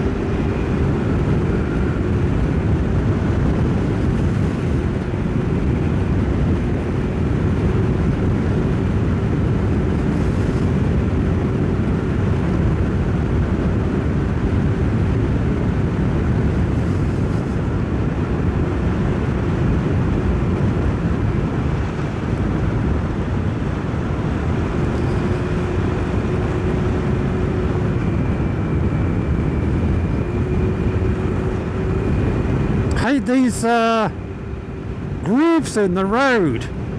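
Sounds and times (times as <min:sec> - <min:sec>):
motorcycle engine drone: 0:00.0 - 0:36.9
wind and road noise: 0:00.0 - 0:36.9.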